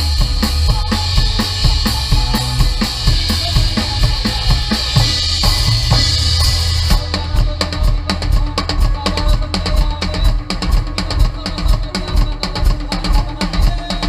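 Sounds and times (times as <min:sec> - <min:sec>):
bass line: 0:00.0 - 0:14.0
drum kit playing fast beat: 0:00.0 - 0:14.0.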